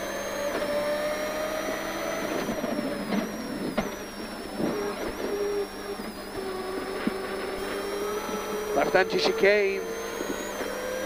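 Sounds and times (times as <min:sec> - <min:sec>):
car engine under load: 0:00.0 - 0:11.0
high steady whine: 0:00.0 - 0:11.0.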